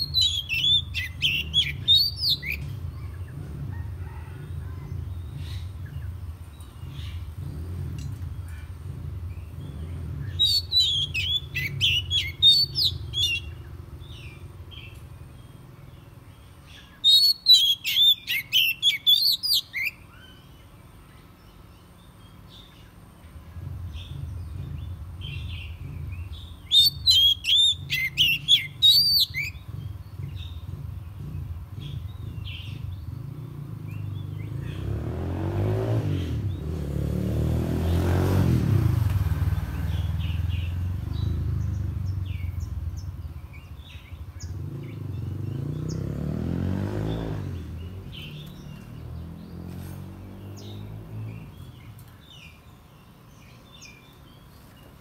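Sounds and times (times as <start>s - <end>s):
bird singing: 0.0s - 55.0s
passing motor vehicle: 0.0s - 55.0s.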